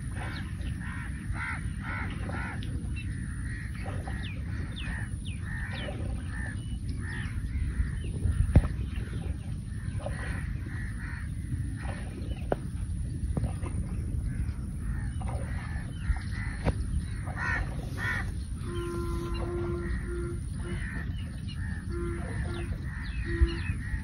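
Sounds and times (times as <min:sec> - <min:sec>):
birds calling: 0:00.0 - 0:24.0
low wind rumble: 0:00.0 - 0:24.0.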